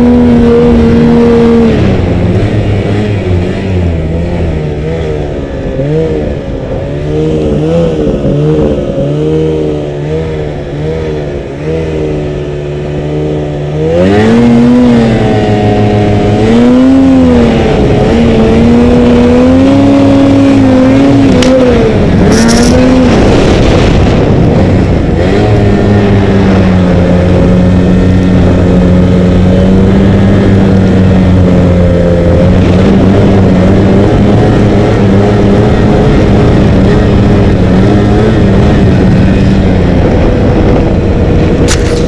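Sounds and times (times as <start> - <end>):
snowmobile engine running: 0.0 - 42.0.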